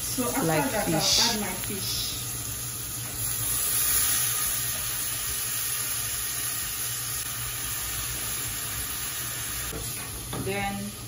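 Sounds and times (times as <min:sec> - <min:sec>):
onions and fish sizzling in oil: 0:00.0 - 0:11.0.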